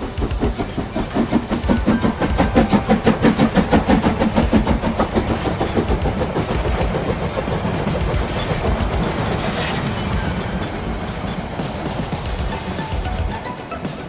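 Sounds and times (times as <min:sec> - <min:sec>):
train rhythmic chugging: 0:00.0 - 0:14.0.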